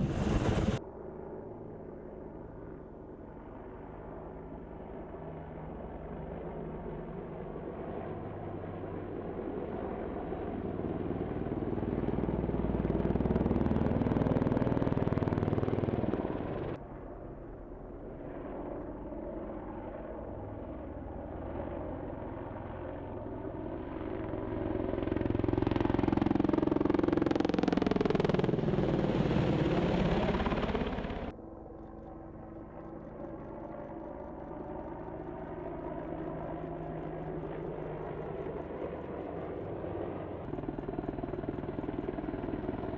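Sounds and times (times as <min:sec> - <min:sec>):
helicopter flying past: 0:00.0 - 0:42.9.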